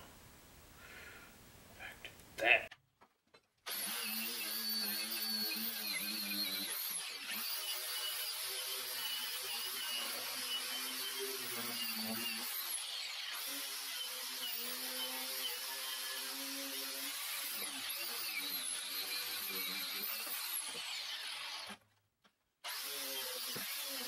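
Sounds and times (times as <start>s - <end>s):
angle grinder on steel: 3.7s - 21.8s, 22.6s - 24.0s.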